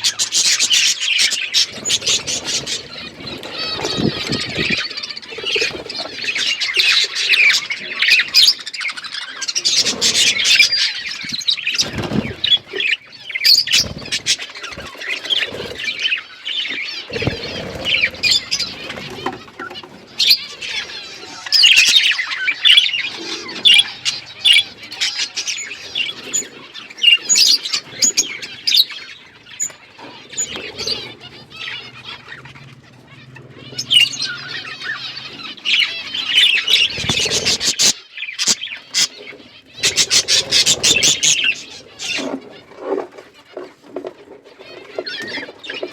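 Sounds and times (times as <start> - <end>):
budgerigars chirping and chattering: 0.0 - 45.9.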